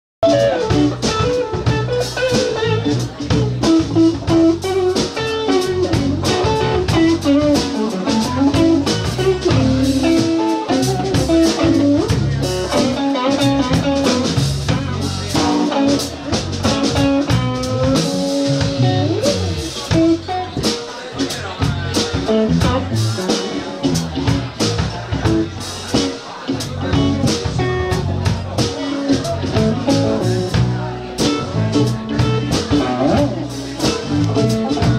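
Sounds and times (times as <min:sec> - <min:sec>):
drum kit: 0:00.2 - 0:34.9
electric guitars: 0:00.2 - 0:34.9.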